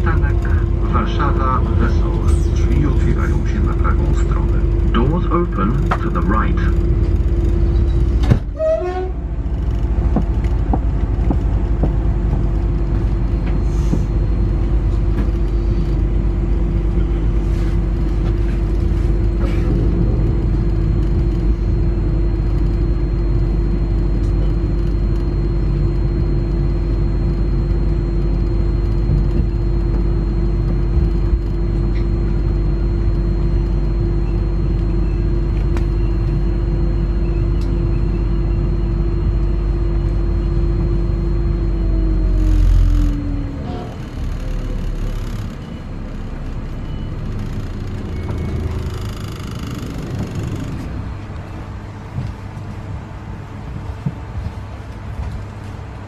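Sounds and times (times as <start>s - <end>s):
train equipment and ventilation hum: 0.0s - 56.0s.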